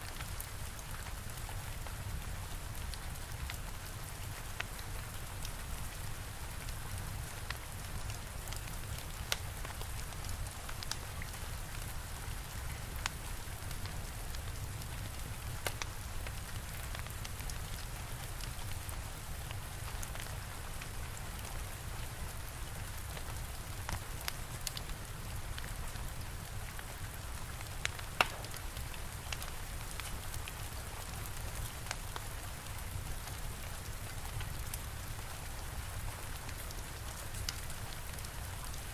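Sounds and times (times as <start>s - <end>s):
steady rain: 0.0s - 38.9s
fire crackling and popping: 0.1s - 38.9s.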